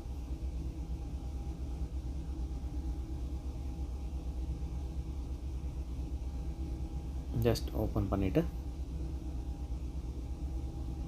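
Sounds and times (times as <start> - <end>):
machinery rumble: 0.0 - 11.0.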